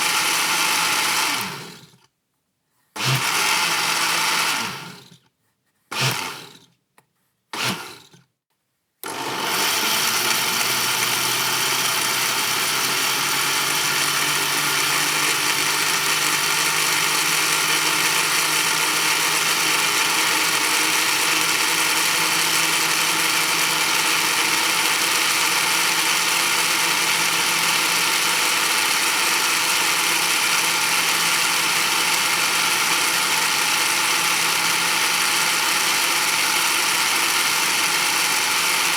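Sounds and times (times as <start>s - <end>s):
kitchen blender running: 0.0s - 2.0s, 3.0s - 5.2s, 5.9s - 6.7s, 7.6s - 8.2s, 9.0s - 38.9s.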